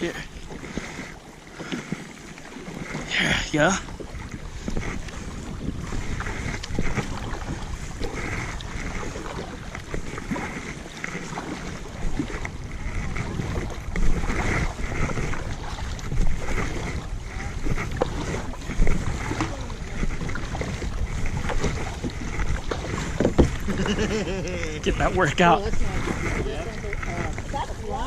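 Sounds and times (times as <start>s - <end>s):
paddle splashing in water: 0.0s - 28.0s
wind buffeting microphone: 0.0s - 28.0s.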